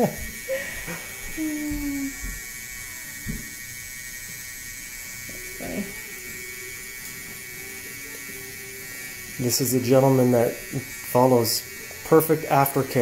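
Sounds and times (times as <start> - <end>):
tattoo machine buzzing: 0.0 - 13.0.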